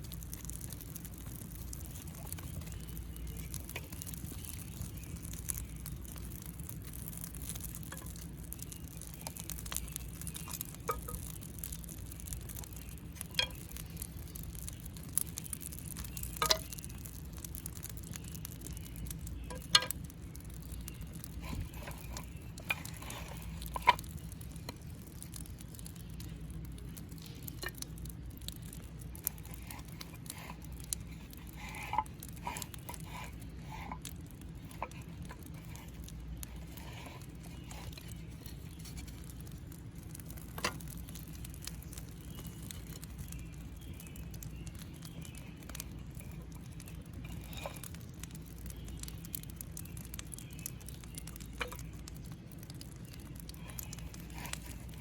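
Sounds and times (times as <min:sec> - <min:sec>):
firewood crackling: 0:00.0 - 0:55.0
low steady rumble: 0:00.0 - 0:55.0.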